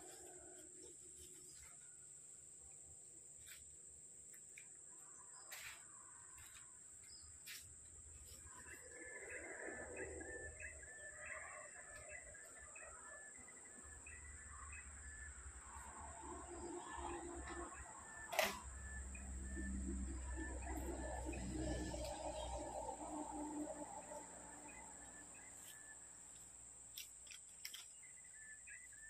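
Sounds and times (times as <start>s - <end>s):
insects droning: 0.0s - 29.0s
birds chirping: 5.3s - 29.0s.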